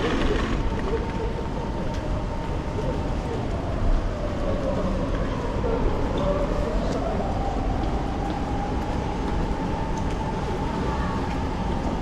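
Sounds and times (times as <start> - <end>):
rain: 0.0 - 12.0
strong wind: 0.0 - 12.0
traffic noise with low rumble: 0.0 - 12.0.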